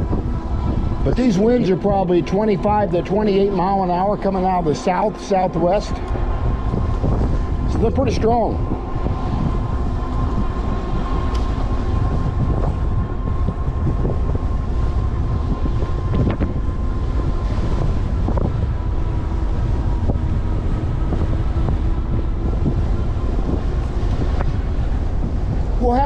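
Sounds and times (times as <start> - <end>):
thin steady whine: 0.0 - 26.0
wind buffeting microphone: 0.0 - 26.0.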